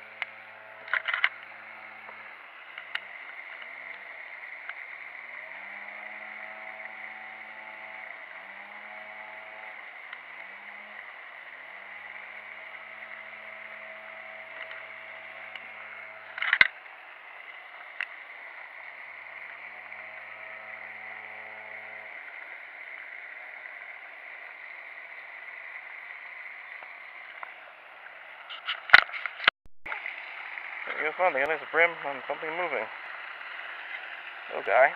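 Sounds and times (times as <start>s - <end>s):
distant motor hum: 0.0s - 34.9s.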